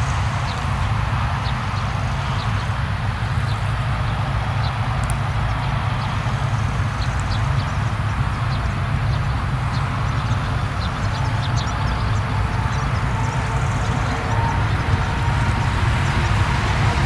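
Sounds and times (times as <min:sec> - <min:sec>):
combine harvesters droning: 0:00.0 - 0:17.0.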